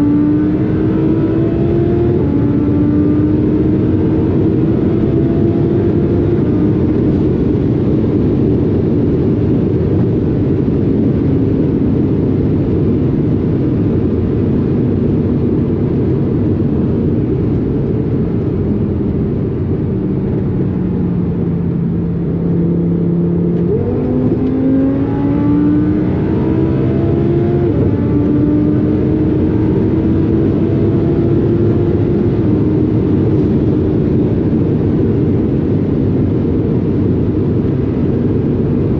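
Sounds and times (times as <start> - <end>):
car engine accelerating: 0.0 - 38.9
wind and road noise: 0.0 - 38.9.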